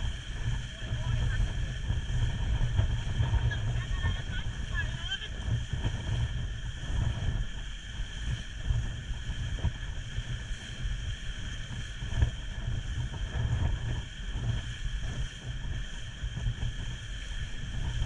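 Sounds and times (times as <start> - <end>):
steady high whine: 0.0 - 18.0
wind buffeting microphone: 0.0 - 18.0.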